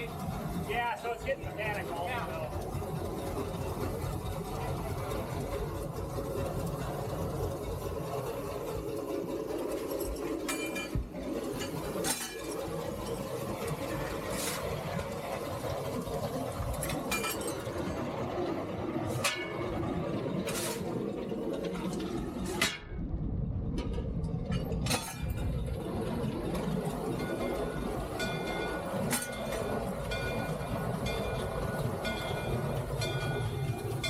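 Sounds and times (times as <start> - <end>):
steam locomotive running noise: 0.0 - 34.0.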